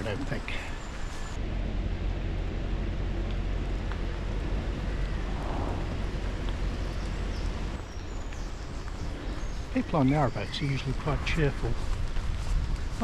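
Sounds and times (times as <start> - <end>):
boat engine rumble: 0.0 - 13.0
outdoor noise: 0.0 - 13.0.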